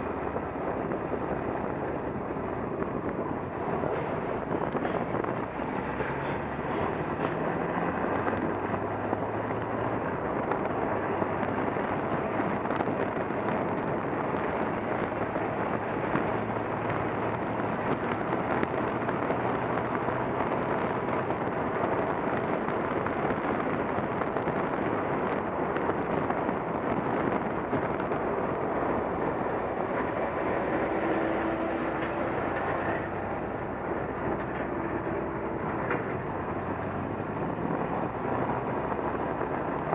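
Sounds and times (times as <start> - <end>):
low engine hum: 0.0 - 39.9
wind and road noise: 0.0 - 39.9.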